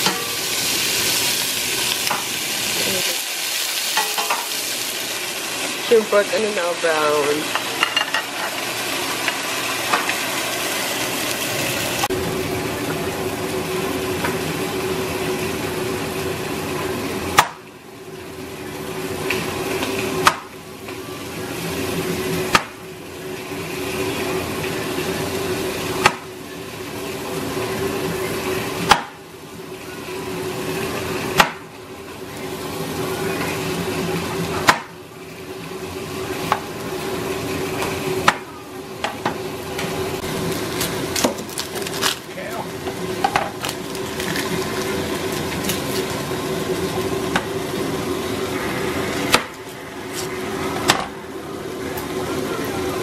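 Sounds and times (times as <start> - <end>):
frying hiss: 0.0 - 53.0
low stovetop hum: 0.0 - 53.0.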